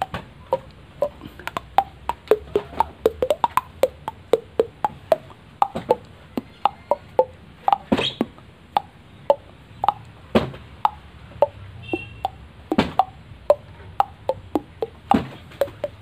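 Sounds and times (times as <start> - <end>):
hollow tocks from throat tapping: 0.0 - 16.0.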